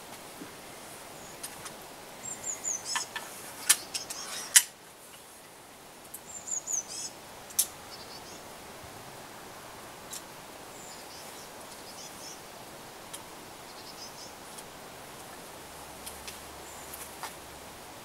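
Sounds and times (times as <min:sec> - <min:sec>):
songbird singing: 0:00.0 - 0:08.9, 0:09.6 - 0:14.7, 0:15.3 - 0:17.3.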